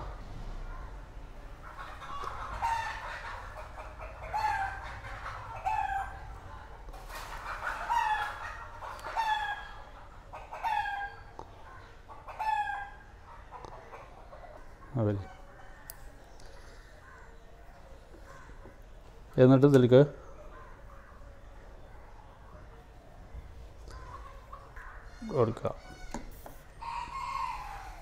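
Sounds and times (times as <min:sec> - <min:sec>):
chickens calling: 0:00.0 - 0:28.0.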